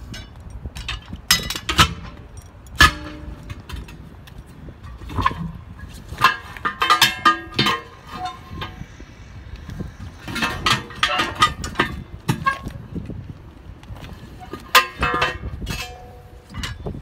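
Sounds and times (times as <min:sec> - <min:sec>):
tire iron clanking on wheel rim: 0:00.0 - 0:17.0.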